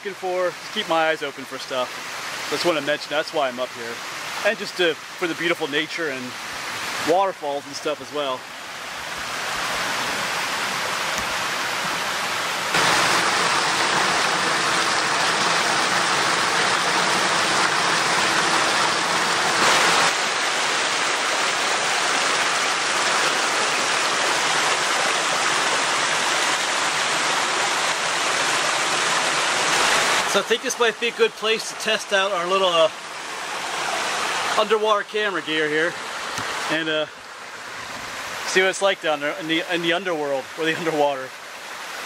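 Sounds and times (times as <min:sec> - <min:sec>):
creek water rushing: 0:00.0 - 0:42.0.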